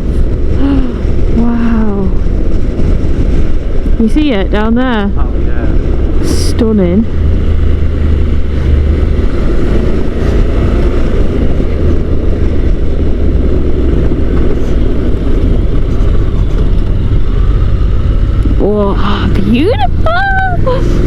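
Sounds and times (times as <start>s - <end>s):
motorcycle engine drone: 0.0s - 21.0s
wind rush over microphone: 0.0s - 21.0s.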